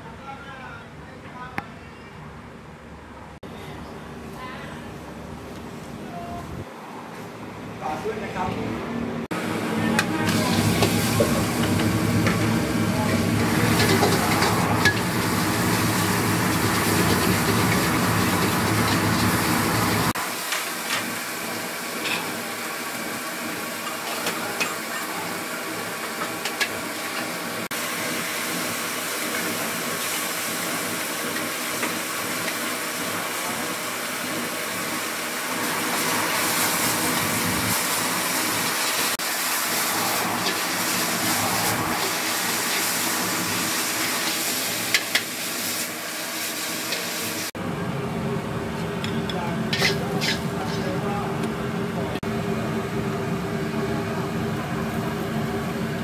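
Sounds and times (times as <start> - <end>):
wok sizzling: 9.4 - 56.0.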